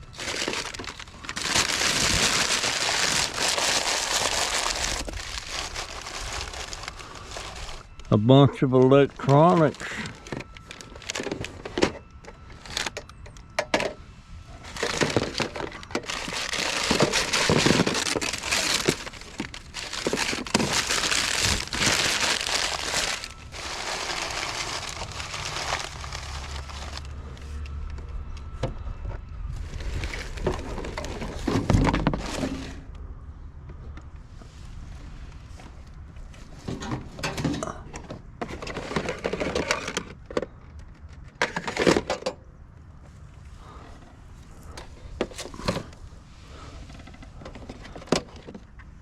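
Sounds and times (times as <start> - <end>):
rummaging through scrap junk: 0.0 - 27.6, 29.5 - 32.9, 34.4 - 42.4, 43.2 - 49.0.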